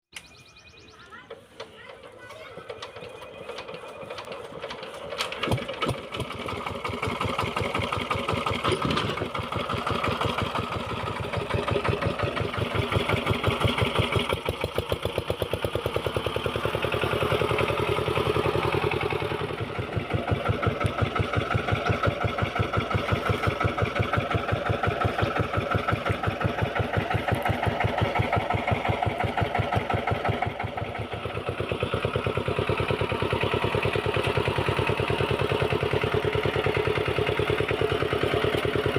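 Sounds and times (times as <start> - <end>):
diesel engine running: 0.3 - 38.9.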